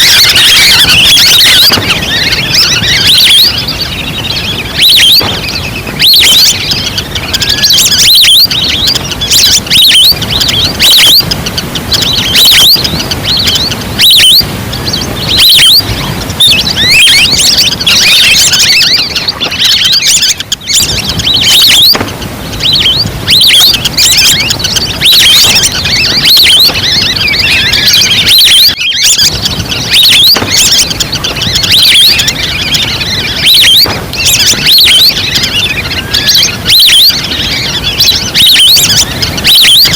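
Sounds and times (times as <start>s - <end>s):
ducks calling: 0.0s - 39.9s.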